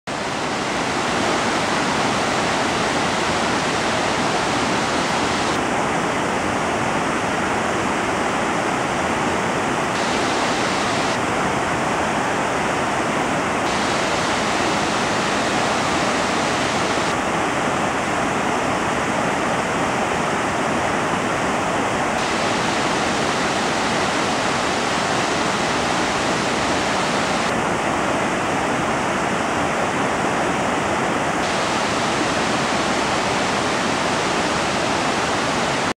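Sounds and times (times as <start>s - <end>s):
waterfall rushing: 0.1s - 35.9s.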